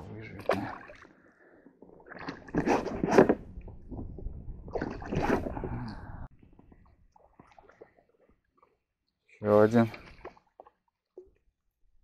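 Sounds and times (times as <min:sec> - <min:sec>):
water splashing and sloshing: 0:00.0 - 0:11.6.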